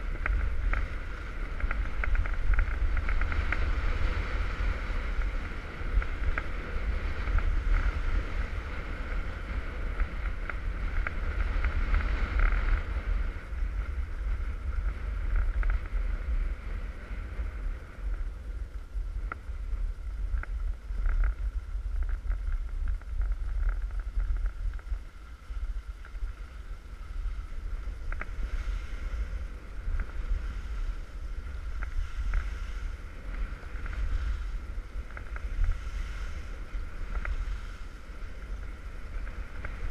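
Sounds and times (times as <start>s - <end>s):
skis scraping on snow: 0.0s - 39.9s
wind buffeting microphone: 0.0s - 39.9s.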